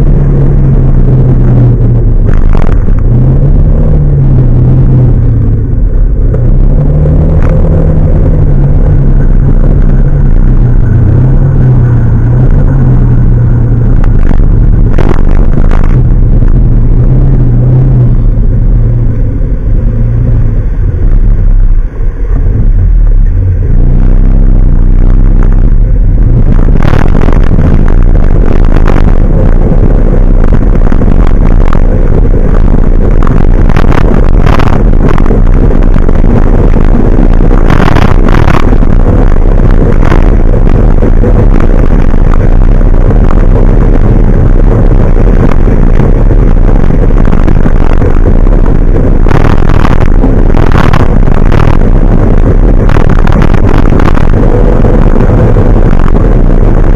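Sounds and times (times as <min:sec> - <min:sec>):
gusty noise bursts: 0:00.0 - 0:56.9
road noise: 0:00.0 - 0:56.9
vehicle engine running: 0:00.0 - 0:56.9.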